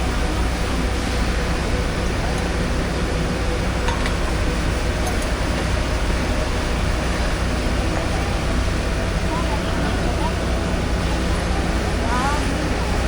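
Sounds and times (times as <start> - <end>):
heavy low rumble: 0.0 - 13.0.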